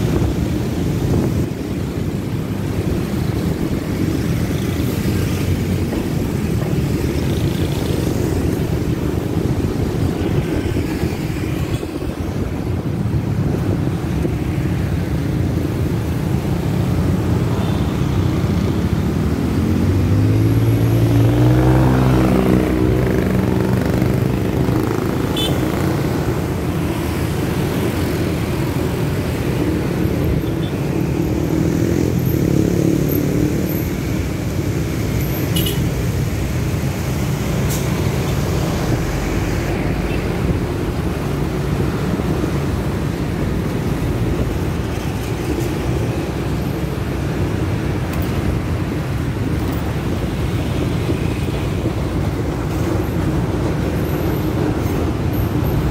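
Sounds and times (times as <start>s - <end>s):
road rumble: 0.0s - 55.9s
vehicle engines: 0.0s - 55.9s.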